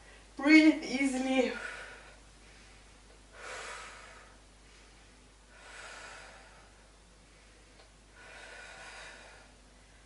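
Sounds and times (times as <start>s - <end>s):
woman breathing calmly: 0.0s - 0.4s, 1.5s - 10.0s.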